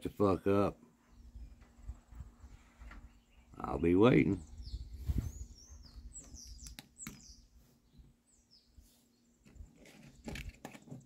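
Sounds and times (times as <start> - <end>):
high falling bird chirps: 1.0 - 10.3.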